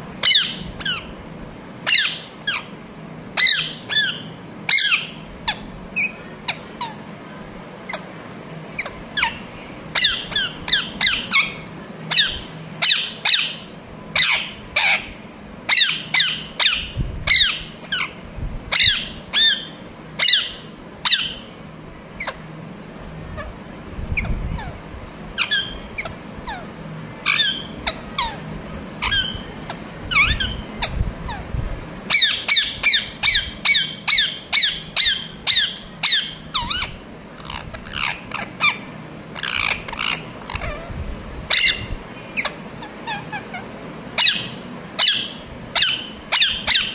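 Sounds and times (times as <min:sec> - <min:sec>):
parrot chirping and squawking: 0:00.2 - 0:01.2, 0:01.8 - 0:02.8, 0:03.4 - 0:07.1, 0:07.8 - 0:08.1, 0:08.7 - 0:21.5, 0:22.2 - 0:22.5, 0:24.2 - 0:24.8, 0:25.4 - 0:31.5, 0:32.1 - 0:46.9.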